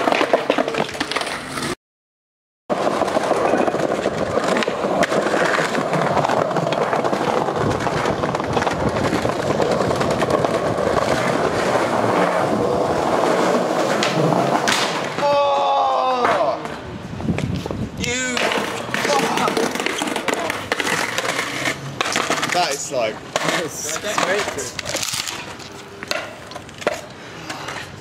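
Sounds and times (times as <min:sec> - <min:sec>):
skateboard wheels rolling on stone: 0:00.0 - 0:01.8, 0:02.7 - 0:28.0.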